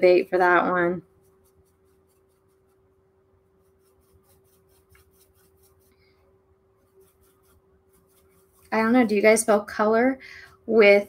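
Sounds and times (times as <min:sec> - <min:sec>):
paintbrush scrubbing paper: 0:00.3 - 0:09.9.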